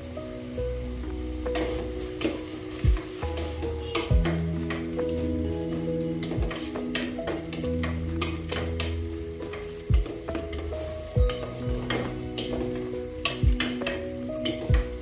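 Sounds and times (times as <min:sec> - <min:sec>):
food sizzling in a pot: 0:00.0 - 0:15.0
soft background music: 0:00.0 - 0:15.0
wooden spoon scraping a pot: 0:01.4 - 0:15.0.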